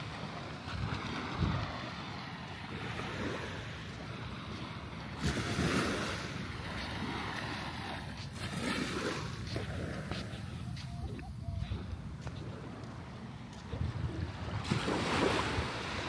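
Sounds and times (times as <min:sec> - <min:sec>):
small waves washing on sand: 0:00.0 - 0:16.0
wind rumbling on microphone: 0:00.0 - 0:16.0.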